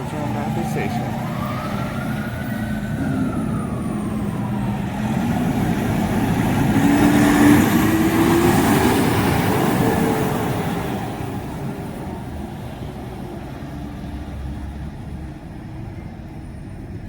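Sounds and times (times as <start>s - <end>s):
fire truck driving past: 0.0s - 17.0s.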